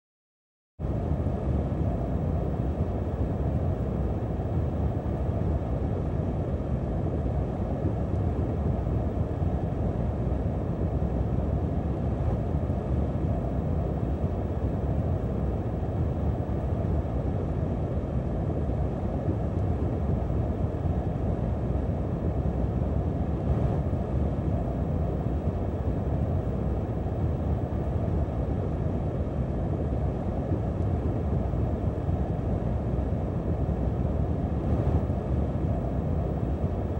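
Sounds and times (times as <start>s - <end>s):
low rushing wind: 0.8s - 36.9s.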